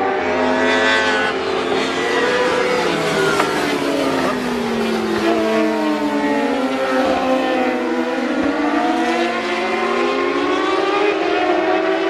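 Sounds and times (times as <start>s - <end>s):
racing motorcycle engines revving: 0.0s - 12.0s.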